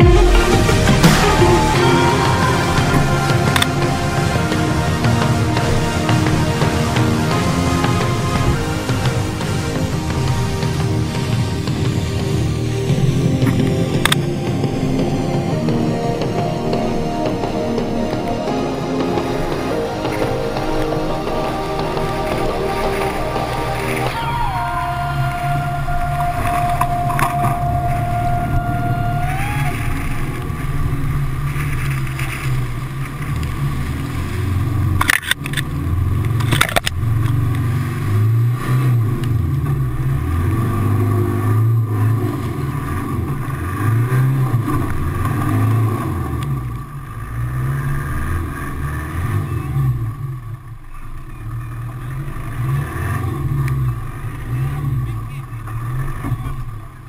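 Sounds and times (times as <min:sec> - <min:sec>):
off-road vehicle engine revving: 0:00.0 - 0:57.0.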